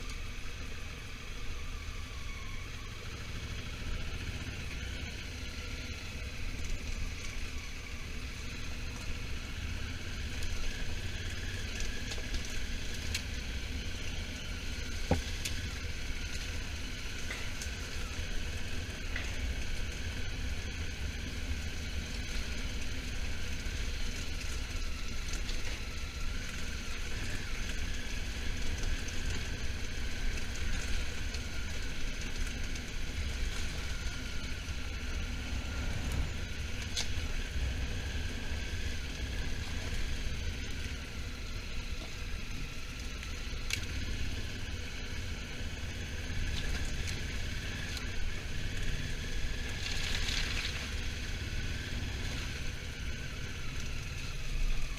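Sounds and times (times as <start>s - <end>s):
motorcycle engine rumble: 0.0s - 54.9s.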